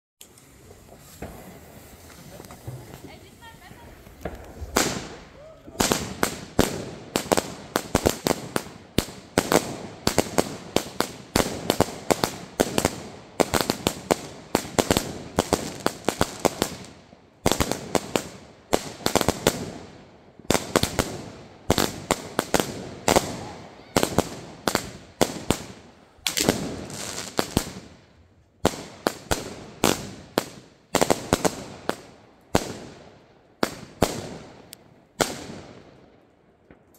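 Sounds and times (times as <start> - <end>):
fireworks bangs and crackling: 0.2 - 36.9.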